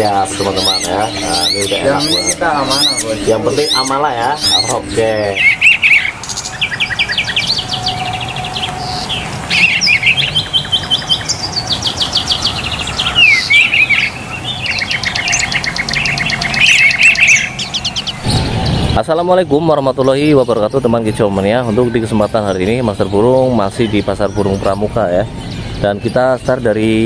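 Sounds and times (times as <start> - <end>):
songbirds singing in trills: 0.0 - 27.0.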